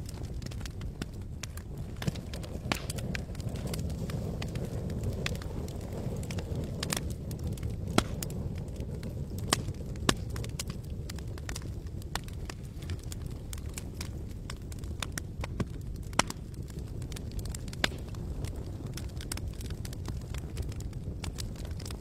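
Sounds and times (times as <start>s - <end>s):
campfire wood crackling: 0.0s - 22.0s
low rush of fire: 0.0s - 22.0s
sharp pops from fire: 0.0s - 22.0s.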